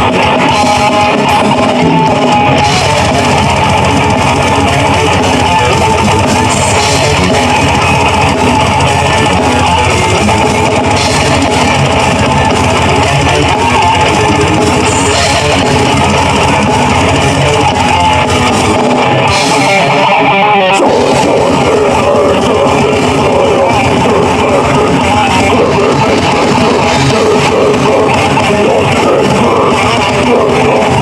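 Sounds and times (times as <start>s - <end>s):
heavy metal band playing: 0.0s - 31.0s.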